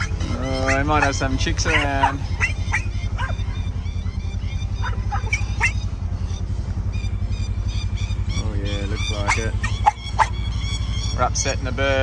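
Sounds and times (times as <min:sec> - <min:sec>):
birds alarm calls: 0:00.0 - 0:12.0
vehicle engine running: 0:00.0 - 0:12.0.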